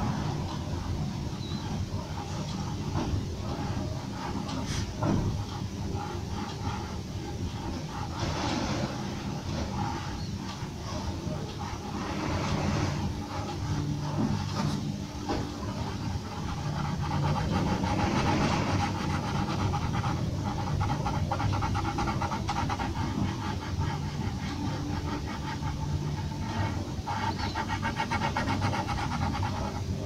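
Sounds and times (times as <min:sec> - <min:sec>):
pencil scratching on paper: 0:00.0 - 0:30.0.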